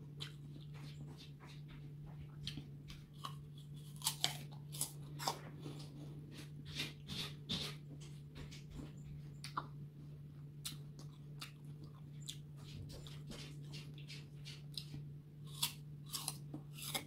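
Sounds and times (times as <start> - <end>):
person chewing crisp apple: 0.0 - 1.7, 2.4 - 8.6, 9.4 - 17.0.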